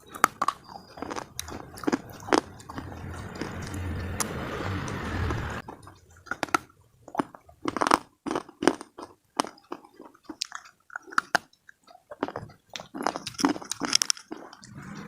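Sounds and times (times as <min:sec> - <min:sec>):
person chewing hard slate pieces: 0:00.0 - 0:05.0, 0:05.6 - 0:14.7.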